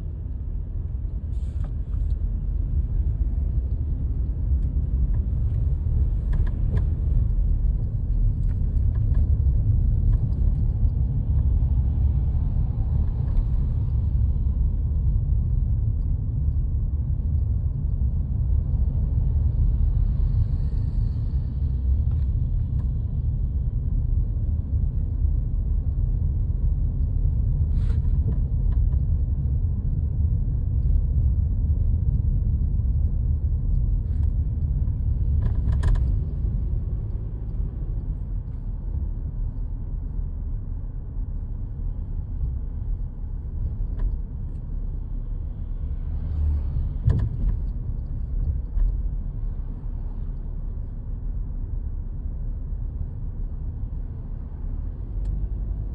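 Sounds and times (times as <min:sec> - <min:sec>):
car engine rumble: 0:00.0 - 0:55.9
road noise: 0:00.0 - 0:55.9.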